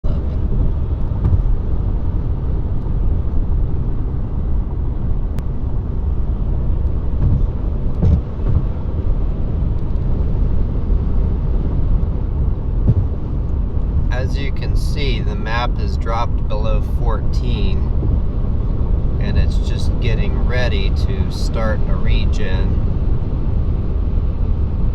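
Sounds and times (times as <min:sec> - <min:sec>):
diesel engine rumble: 0:00.0 - 0:24.9
road noise: 0:00.0 - 0:24.9.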